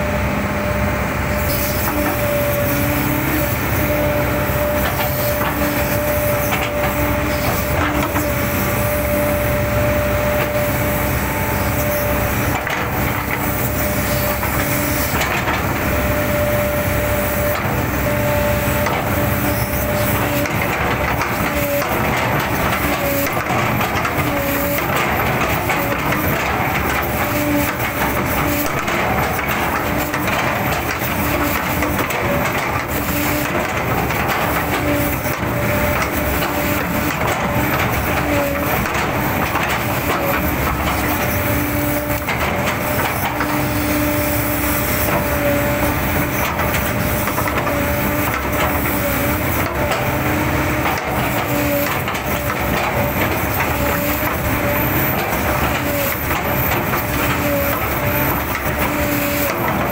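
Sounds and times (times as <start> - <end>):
hydraulic excavator hydraulics whining: 0.0 - 59.9.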